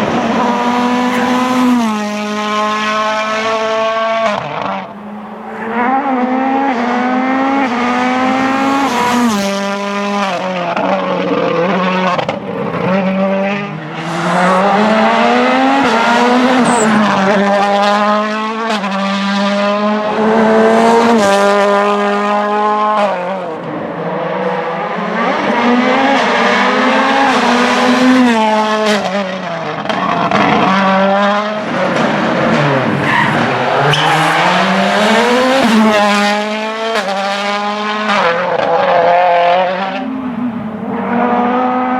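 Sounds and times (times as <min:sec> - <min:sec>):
rally car engine revving hard: 0:00.0 - 0:41.9.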